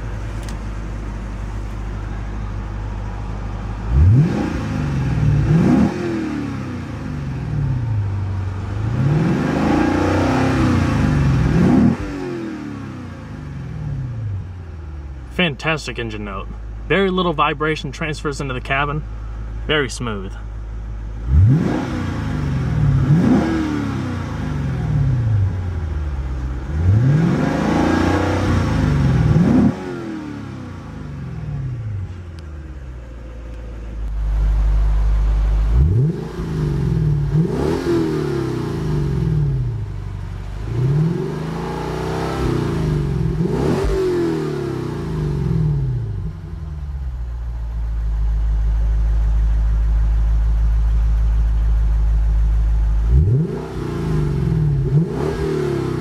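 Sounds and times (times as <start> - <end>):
car engine idling: 0.0 - 56.0
car engine revving: 0.0 - 56.0.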